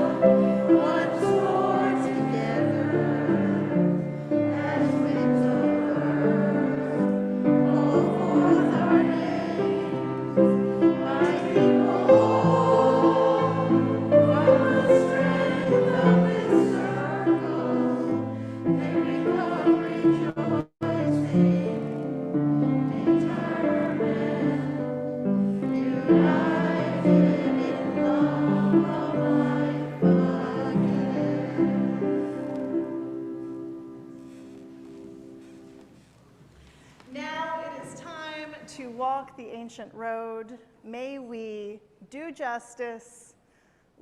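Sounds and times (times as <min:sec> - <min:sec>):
congregation singing a hymn: 0:00.0 - 0:36.0.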